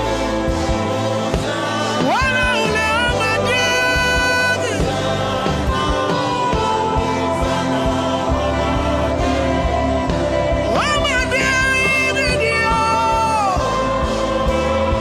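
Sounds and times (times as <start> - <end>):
gospel worship music: 0.0 - 15.0
person singing: 0.0 - 15.0.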